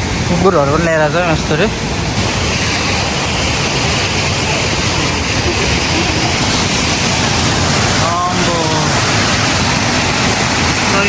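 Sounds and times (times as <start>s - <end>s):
rushing stream water: 0.0s - 11.0s.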